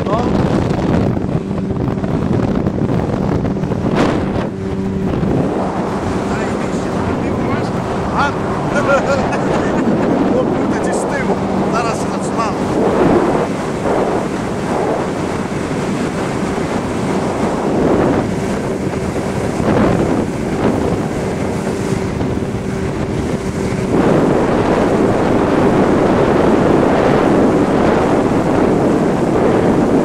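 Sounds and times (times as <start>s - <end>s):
outboard motor humming: 0.0s - 30.0s
water rushing past hull: 0.0s - 30.0s
wind buffeting microphone: 0.0s - 30.0s.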